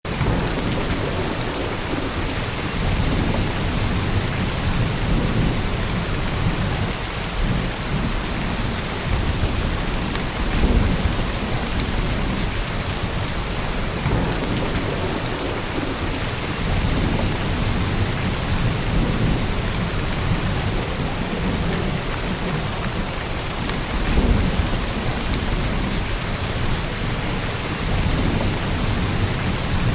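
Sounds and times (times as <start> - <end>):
heavy rain on a roof: 0.0 - 29.9
low rumble of thunder: 0.1 - 29.9.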